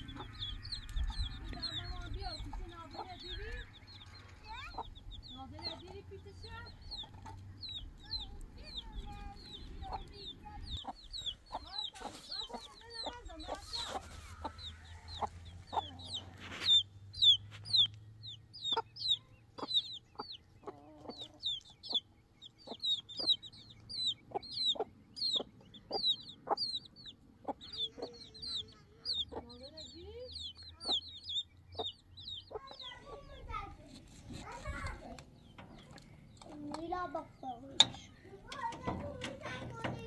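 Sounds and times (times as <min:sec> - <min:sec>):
chicks peeping: 0:00.0 - 0:40.0
hen clucking: 0:00.0 - 0:40.0.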